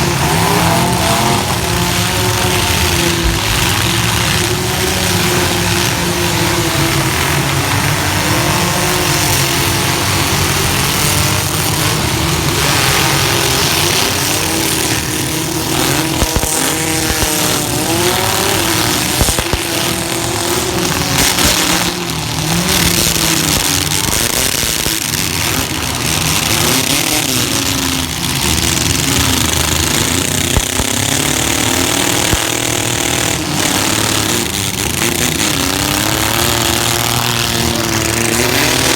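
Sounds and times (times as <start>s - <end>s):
truck engines revving: 0.0s - 38.9s.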